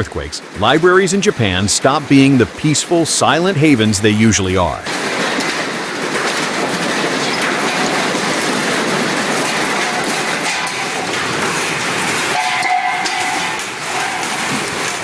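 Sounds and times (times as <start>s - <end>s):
shelves rattling and clattering: 0.0s - 15.0s.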